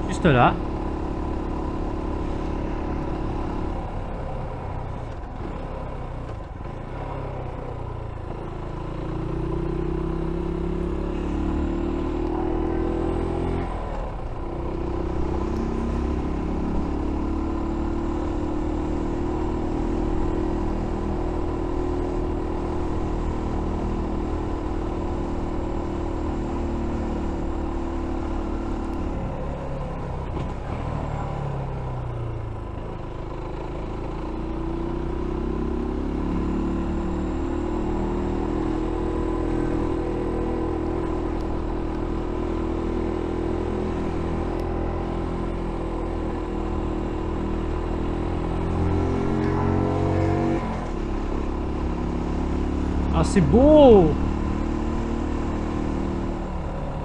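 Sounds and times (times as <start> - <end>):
motorcycle engine revving: 0.0 - 32.2, 33.2 - 57.0.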